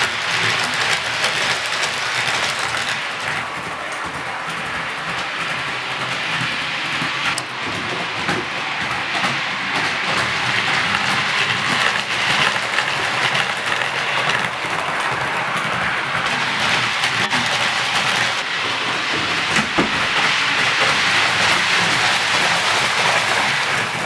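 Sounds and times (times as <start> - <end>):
model train wheels rattling: 0.0 - 24.0.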